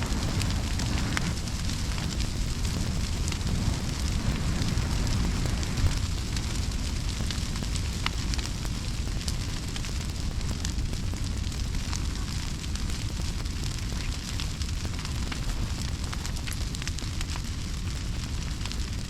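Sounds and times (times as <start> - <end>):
fire crackles and pops: 0.0 - 19.0
fire low rushing: 0.0 - 19.0.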